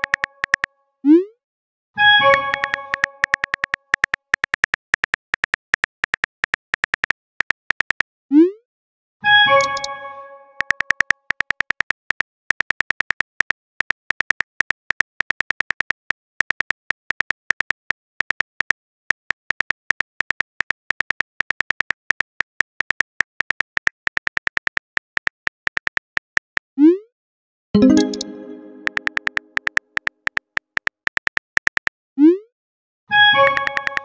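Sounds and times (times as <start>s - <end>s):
phone keyboard typing clicks: 0.0s - 0.7s, 2.2s - 8.1s, 9.5s - 9.9s, 10.6s - 26.6s, 27.8s - 32.0s, 33.4s - 34.0s.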